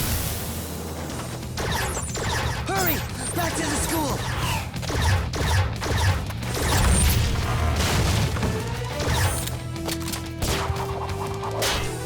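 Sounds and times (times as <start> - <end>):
action cartoon music: 0.0 - 12.0.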